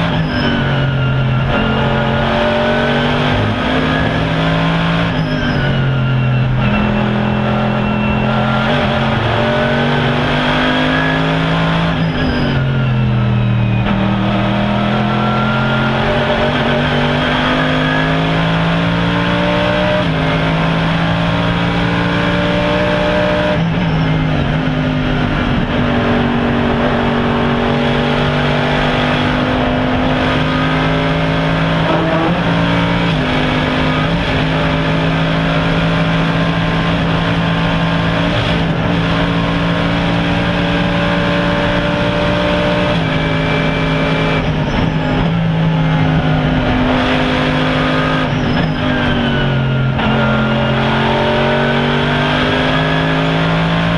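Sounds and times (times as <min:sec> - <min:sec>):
racing car engine with gear changes: 0:00.0 - 0:53.9.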